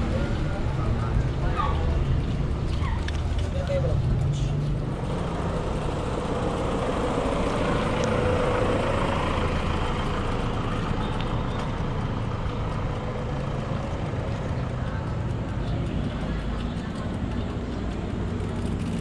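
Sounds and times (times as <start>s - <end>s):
motor engine running: 0.0s - 19.0s.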